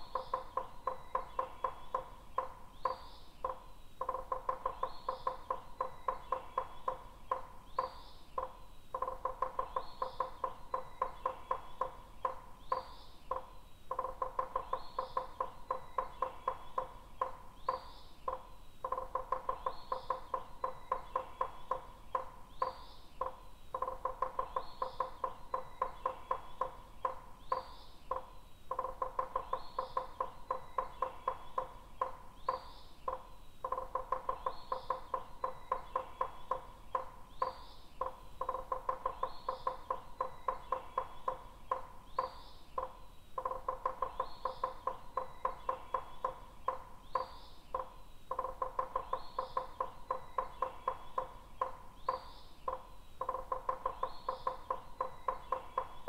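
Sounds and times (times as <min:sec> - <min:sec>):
woodpecker tapping: 0:00.0 - 0:56.0.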